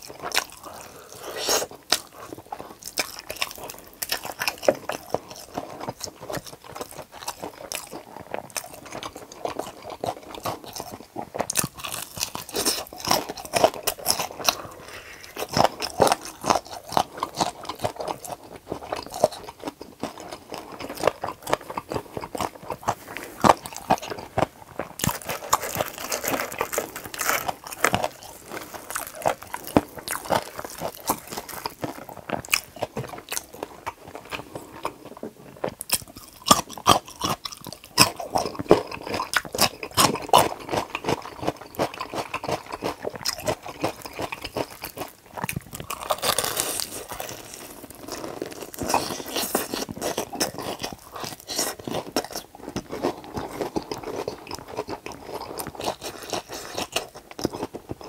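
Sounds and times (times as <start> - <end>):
crunching fried chicken: 0.0 - 58.0
wet chewing: 0.0 - 58.0.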